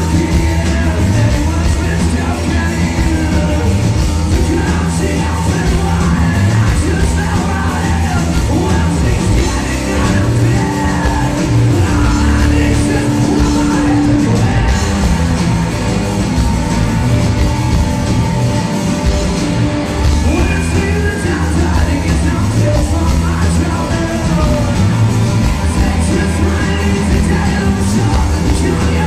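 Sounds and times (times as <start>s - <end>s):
sung and shouted vocals: 0.0s - 15.8s, 20.2s - 29.0s
live rock band playing: 0.0s - 29.0s.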